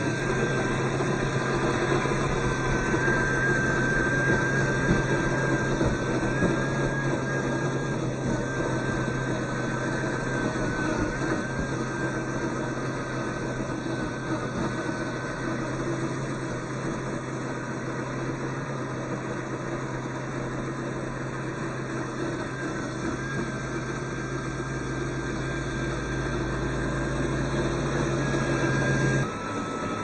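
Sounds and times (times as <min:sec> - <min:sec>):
toy truck motor whining: 0:00.0 - 0:30.0.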